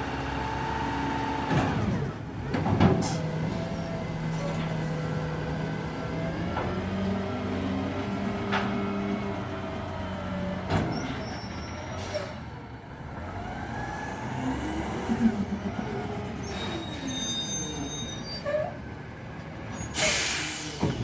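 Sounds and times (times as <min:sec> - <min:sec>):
garbage truck engine: 0:00.0 - 0:21.0.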